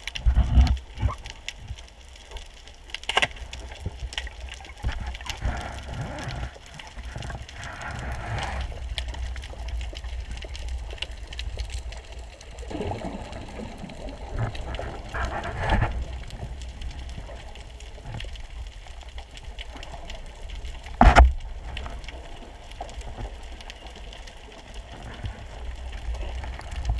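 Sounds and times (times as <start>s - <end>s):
fine crackle of clicks: 0.0s - 26.9s
rushing water: 0.0s - 26.9s
underwater low rumble: 0.0s - 26.9s.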